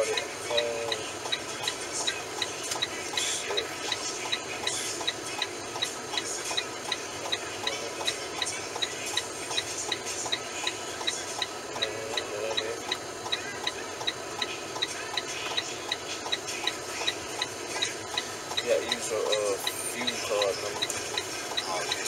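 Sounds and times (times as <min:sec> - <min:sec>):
low background hum: 0:00.0 - 0:22.0
steady even ticking: 0:00.0 - 0:22.0.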